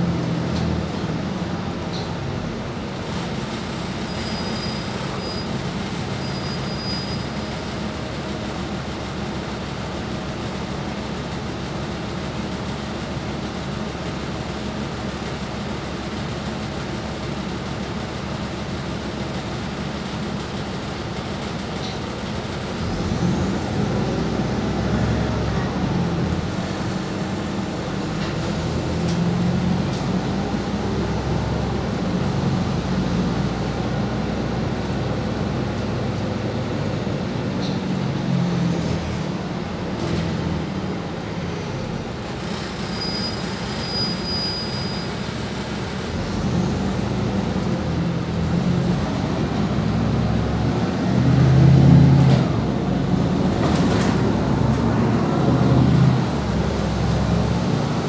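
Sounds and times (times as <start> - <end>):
road rumble: 0.0 - 43.9, 45.0 - 58.0
bus engine drone: 0.0 - 58.0.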